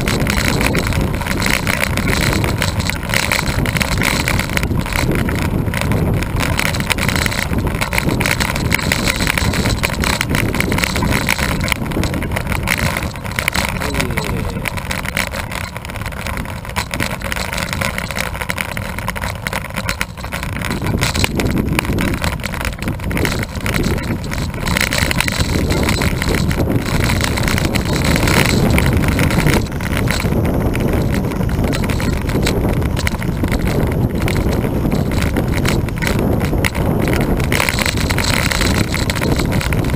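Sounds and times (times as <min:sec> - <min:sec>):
bicycle tyre noise on asphalt: 0:00.0 - 0:39.9
wind rushing over microphone: 0:00.0 - 0:39.9.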